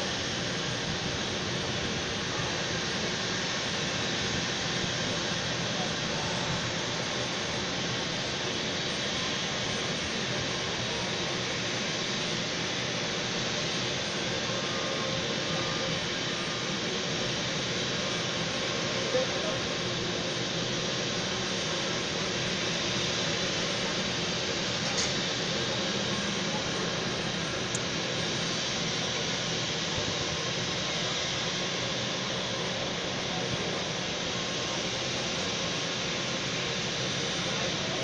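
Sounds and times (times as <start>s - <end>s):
jet engines idling: 0.0s - 38.0s.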